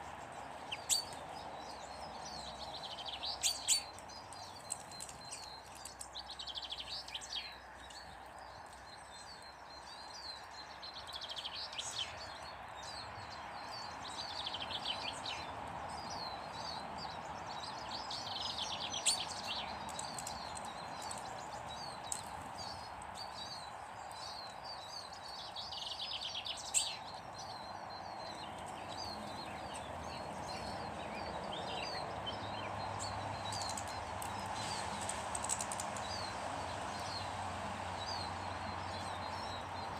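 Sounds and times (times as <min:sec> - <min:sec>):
birds singing: 0:00.0 - 0:39.9
steady background noise: 0:00.0 - 0:39.9.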